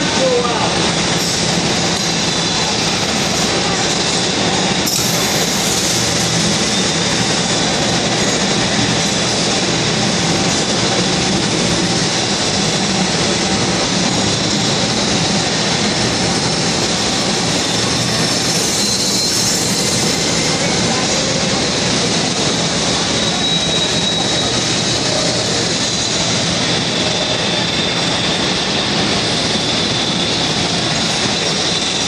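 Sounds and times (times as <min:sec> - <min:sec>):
loud industrial machinery noise: 0:00.0 - 0:32.0.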